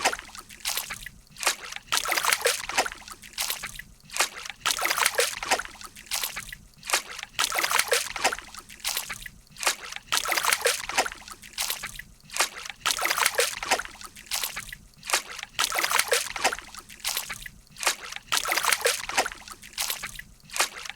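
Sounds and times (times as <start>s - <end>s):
water sloshing and splashing: 0.0s - 20.9s.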